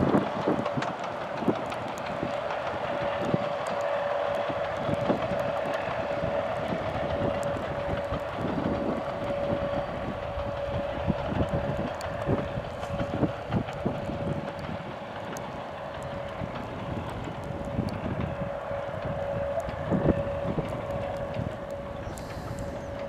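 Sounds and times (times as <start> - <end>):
distant diesel train humming: 0.0 - 23.0
wind buffeting microphone: 0.0 - 23.0.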